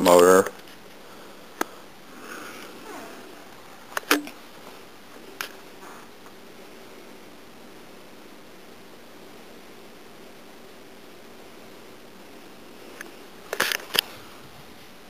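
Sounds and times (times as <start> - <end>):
ceiling fan air hiss and hum: 0.0 - 15.0.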